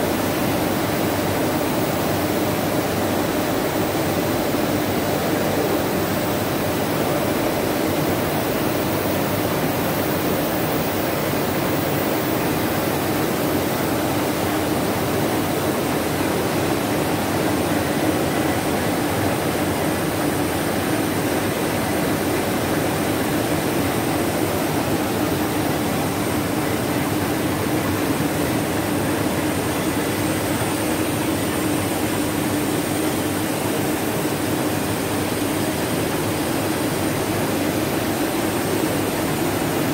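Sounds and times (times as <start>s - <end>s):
printing press running: 0.0s - 39.9s.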